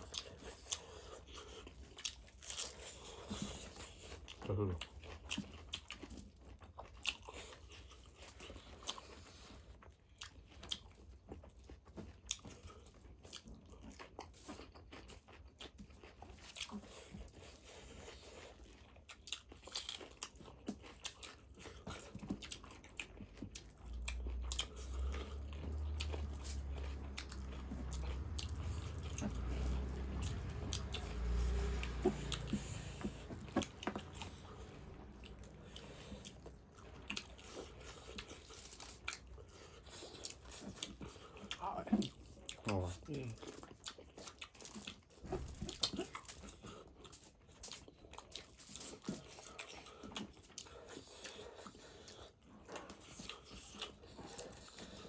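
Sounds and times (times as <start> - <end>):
wet chewing and crunching: 0.0 - 55.0.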